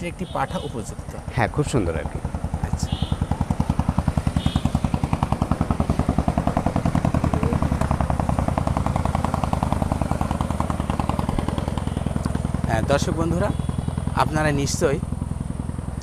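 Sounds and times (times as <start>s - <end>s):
small engine thudding: 2.0s - 16.0s.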